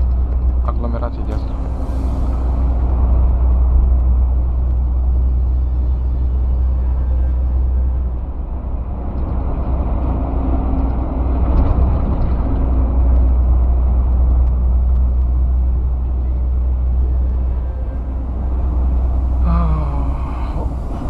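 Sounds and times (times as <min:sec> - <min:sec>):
truck engine and road drone: 0:00.0 - 0:21.0.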